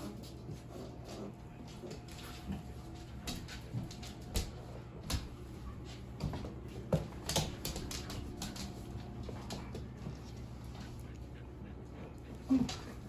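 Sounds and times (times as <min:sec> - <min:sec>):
puppies clicking and tapping: 0:00.0 - 0:13.0.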